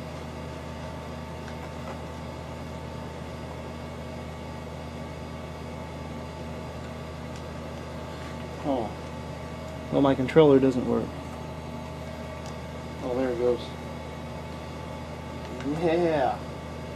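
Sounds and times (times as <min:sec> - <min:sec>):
electronics hum and fan noise: 0:00.0 - 0:16.9.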